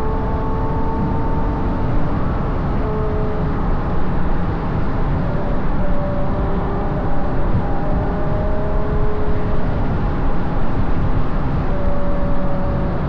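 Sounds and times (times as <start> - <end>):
car engine cruising: 0.0 - 13.0
wind and road noise: 0.0 - 13.0.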